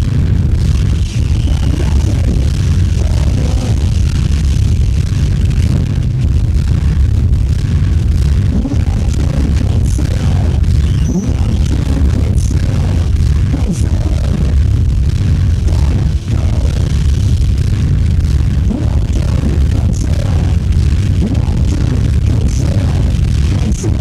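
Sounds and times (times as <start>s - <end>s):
crackles: 0.0s - 24.0s
distorted low rumble: 0.0s - 24.0s
harsh noisy hiss: 0.0s - 24.0s.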